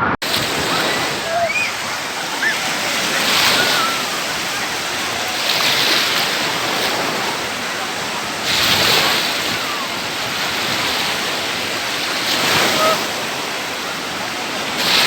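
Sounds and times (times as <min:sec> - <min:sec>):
waves breaking: 0:00.0 - 0:15.0.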